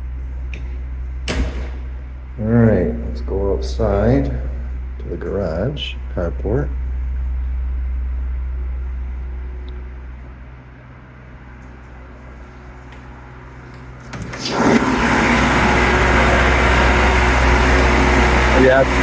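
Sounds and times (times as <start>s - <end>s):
generator humming: 0.0s - 19.0s.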